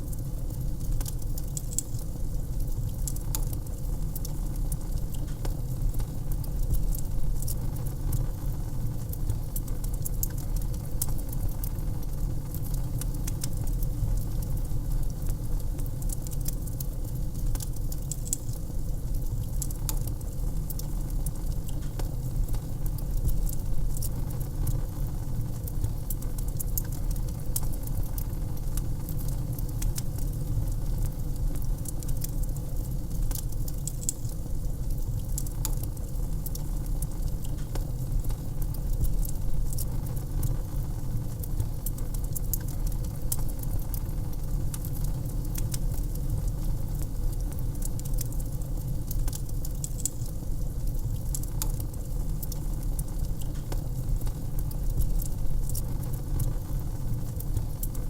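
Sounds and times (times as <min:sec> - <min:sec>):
fire crackling: 0:00.0 - 0:58.0
flames rumbling: 0:00.1 - 0:58.0.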